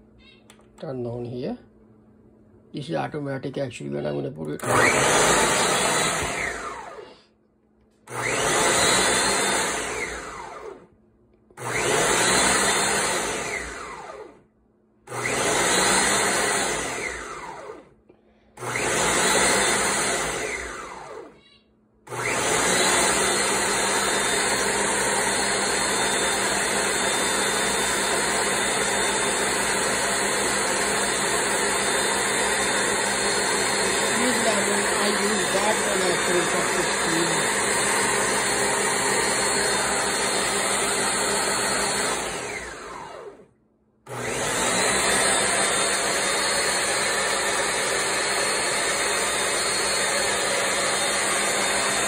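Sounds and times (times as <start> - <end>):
blender motor running: 4.6 - 7.2, 8.1 - 10.9, 11.6 - 14.4, 15.1 - 18.0, 18.6 - 21.4, 22.1 - 43.5, 44.1 - 52.0.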